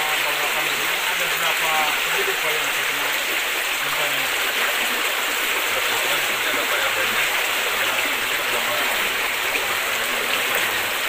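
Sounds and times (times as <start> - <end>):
flood water rushing: 0.0 - 11.0.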